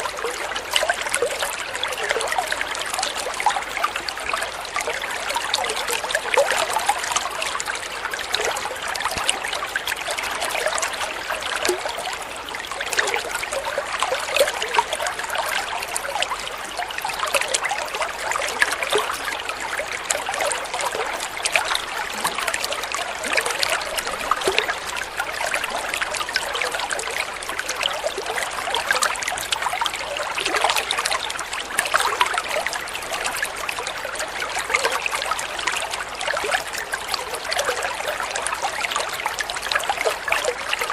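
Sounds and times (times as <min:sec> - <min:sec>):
water trickling in a stream: 0:00.0 - 0:40.9.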